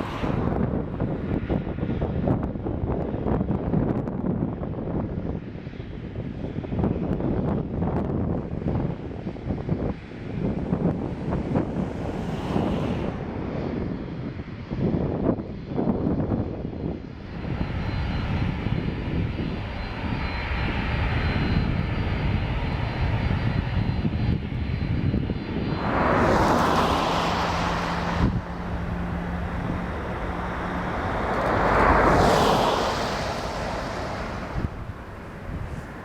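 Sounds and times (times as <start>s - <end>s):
jet engines during takeoff: 0.0s - 36.0s.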